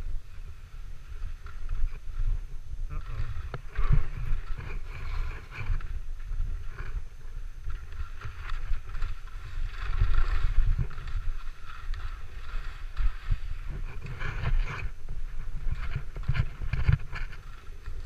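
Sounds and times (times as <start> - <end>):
skis scraping over snow: 0.0 - 18.0
wind rumble on microphone: 0.0 - 18.0.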